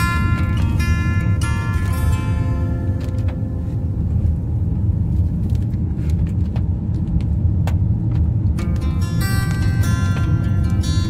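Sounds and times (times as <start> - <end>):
car engine and tyres on wet road: 0.0 - 11.0.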